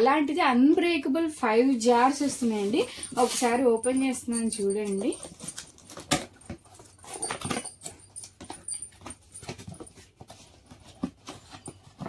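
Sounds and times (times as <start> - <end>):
cardboard packaging rustling: 1.5 - 12.0.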